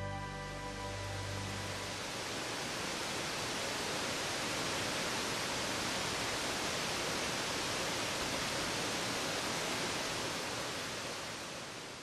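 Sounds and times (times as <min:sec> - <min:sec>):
waterfall splashing over rock: 0:02.0 - 0:12.0.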